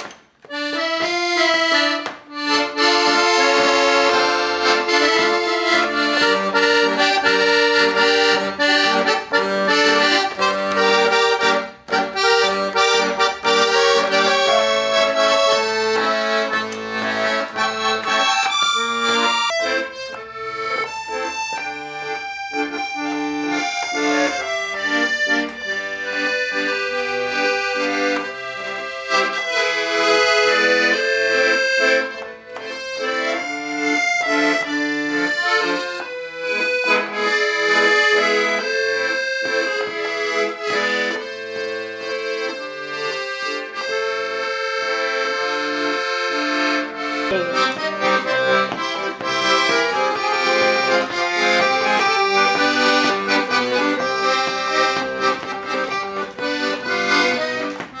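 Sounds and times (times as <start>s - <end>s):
accordion playing a tune: 0.0s - 58.0s.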